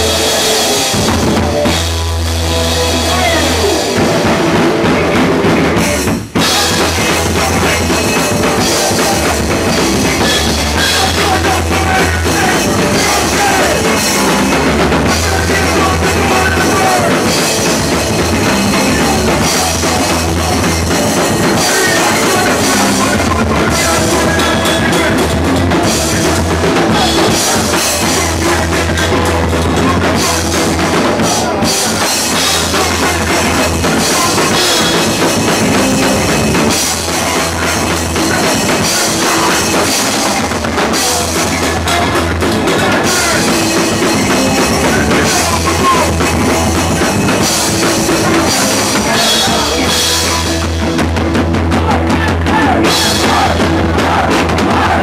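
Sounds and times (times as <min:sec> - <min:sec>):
drum kit with cymbals: 0:00.0 - 0:55.0
electric guitar: 0:00.0 - 0:55.0
rock band playing: 0:00.0 - 0:55.0.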